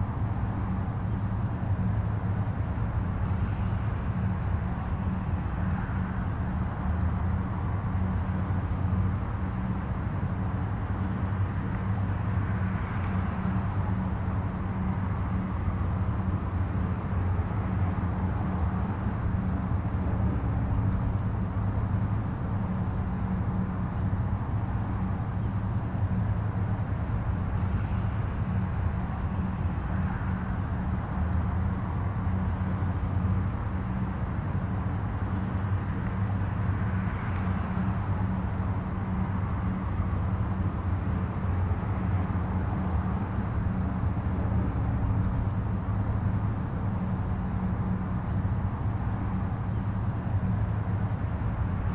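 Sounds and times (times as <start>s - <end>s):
distant highway traffic rumble: 0.0s - 51.9s
vehicles passing: 0.0s - 51.9s.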